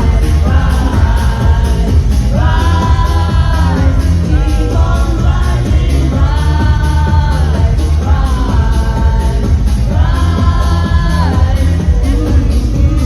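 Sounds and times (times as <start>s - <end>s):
loud dance music: 0.0s - 13.0s.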